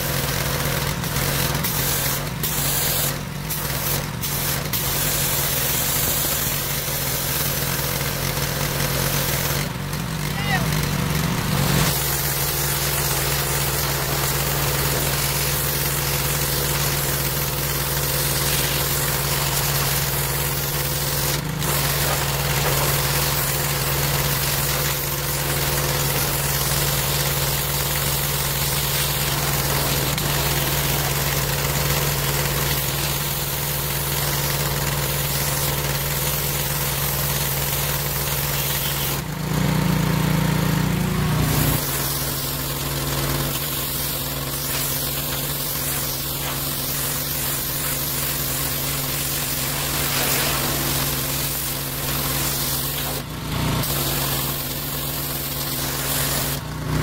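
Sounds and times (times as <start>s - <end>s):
pressure washer engine running: 0.0s - 57.0s.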